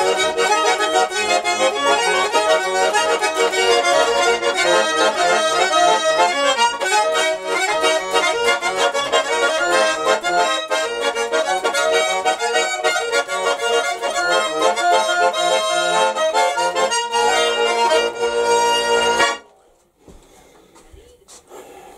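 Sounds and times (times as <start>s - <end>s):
button accordion playing: 0.0s - 19.4s.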